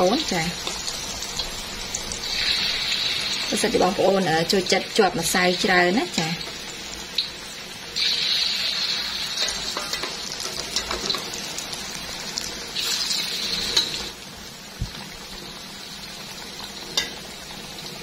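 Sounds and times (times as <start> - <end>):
potato sticks deep-frying in oil: 0.0 - 18.0.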